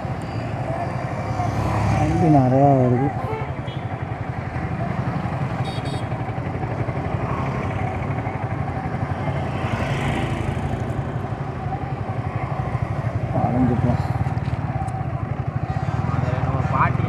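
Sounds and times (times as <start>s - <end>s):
street traffic: 0.0s - 17.0s
motorcycle engine idling: 2.6s - 17.0s.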